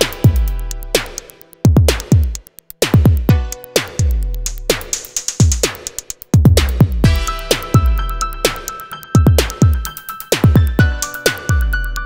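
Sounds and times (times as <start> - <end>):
deep kick drums: 0.0 - 11.8
electronic dance music: 0.0 - 11.9
hi-hat ticks: 0.0 - 12.0.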